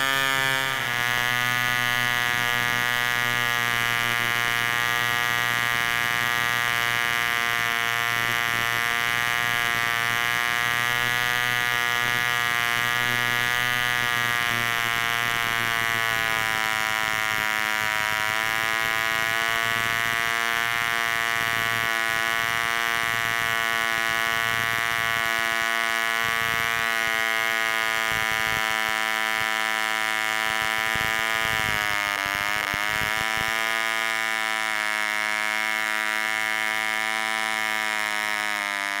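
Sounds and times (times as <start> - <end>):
model engine high-pitched buzz: 0.0 - 39.0.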